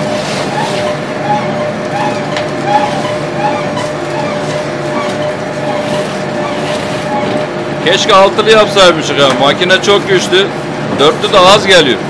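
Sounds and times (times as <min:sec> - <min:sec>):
machine motor hum: 0:00.0 - 0:12.0
steady machine tone: 0:00.0 - 0:12.0.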